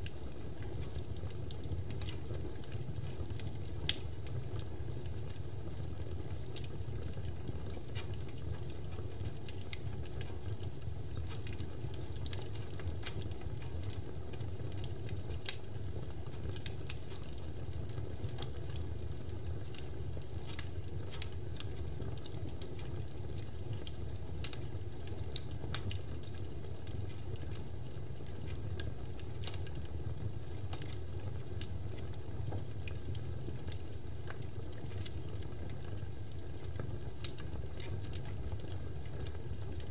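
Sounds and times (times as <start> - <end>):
bonfire wood crackling: 0.0 - 39.9
low fire rumble: 0.0 - 39.9.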